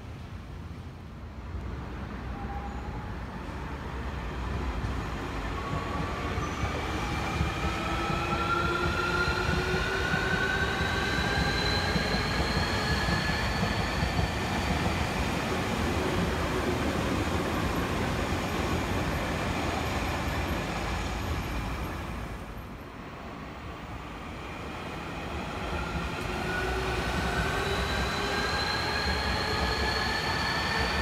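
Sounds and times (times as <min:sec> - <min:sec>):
electric train rumbling past: 0:01.7 - 0:31.0.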